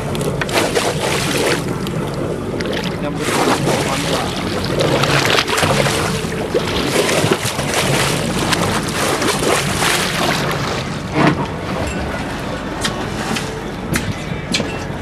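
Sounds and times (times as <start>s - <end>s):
boat engine running low: 0.0s - 15.0s
water sloshing against hull: 0.0s - 15.0s.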